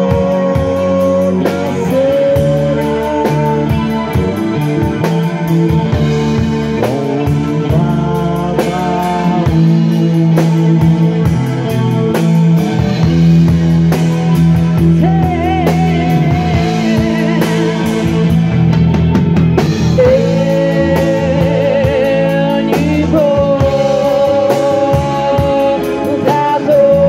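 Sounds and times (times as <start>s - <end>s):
drum kit steady beat: 0.0s - 27.0s
electric bass: 0.0s - 27.0s
electric guitar: 0.0s - 27.0s.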